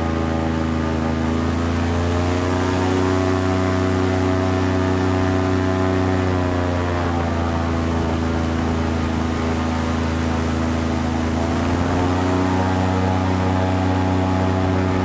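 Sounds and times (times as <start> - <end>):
airboat engine and propeller: 0.0 - 15.0.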